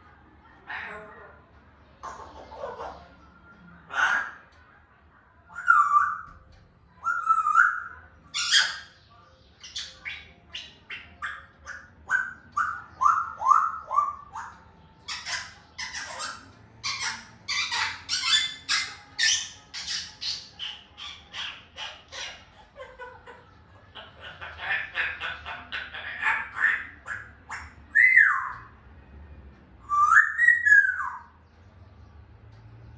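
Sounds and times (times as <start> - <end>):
parrot whistles and squawks: 2.0 - 3.3, 3.9 - 4.5, 5.5 - 28.8, 29.8 - 31.4.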